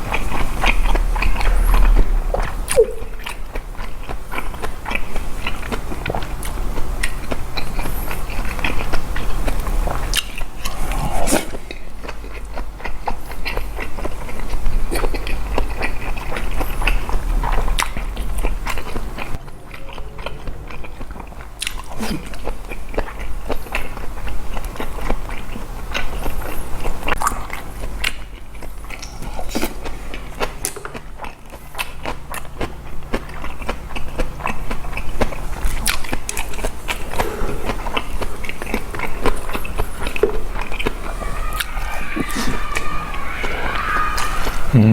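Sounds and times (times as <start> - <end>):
person chewing food: 0.0 - 44.8.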